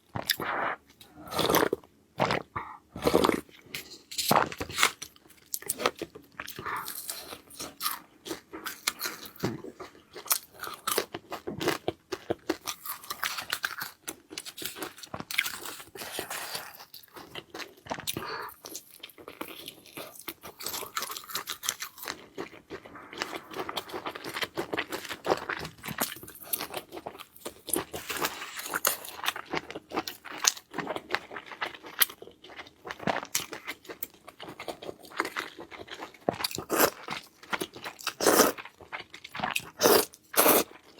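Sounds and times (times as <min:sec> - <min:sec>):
crunching and chewing: 0:00.0 - 0:40.9.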